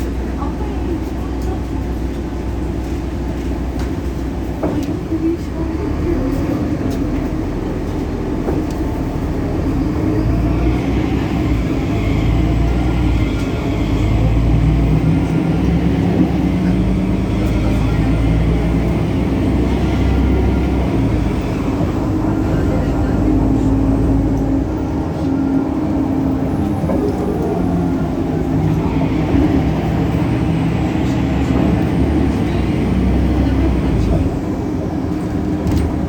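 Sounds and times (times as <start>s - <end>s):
bus diesel engine running: 0.0s - 36.0s.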